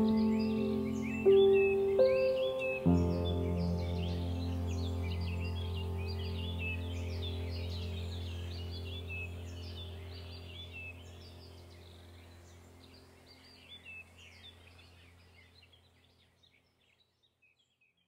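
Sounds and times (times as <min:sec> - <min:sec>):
low steady drone: 0:00.0 - 0:15.2
birds chirping: 0:00.0 - 0:18.0.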